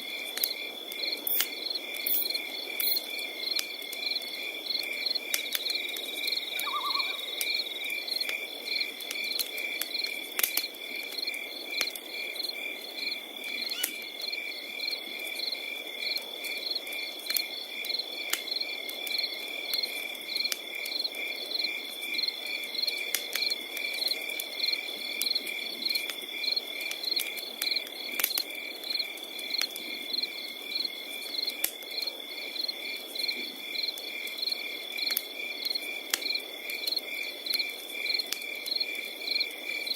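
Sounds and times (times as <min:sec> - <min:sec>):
wood fire crackling and popping: 0:00.0 - 0:39.9
crickets chirping: 0:00.1 - 0:39.9.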